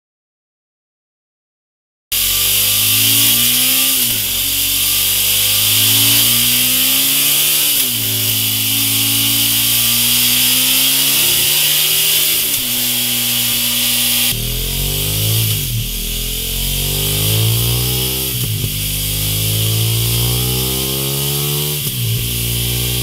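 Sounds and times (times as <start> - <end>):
motorcycle engine revving: 2.1 - 23.0
steady high hiss: 2.2 - 23.0.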